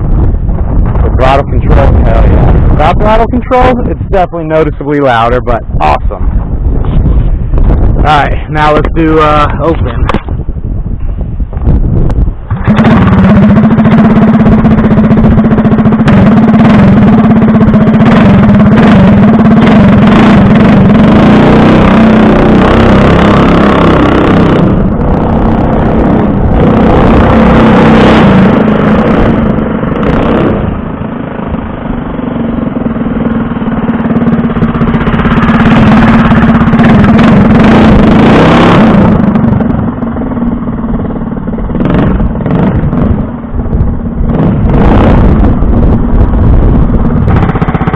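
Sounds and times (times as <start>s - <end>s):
mini bike engine running loud: 0.0s - 4.0s, 6.3s - 10.4s, 11.7s - 47.9s.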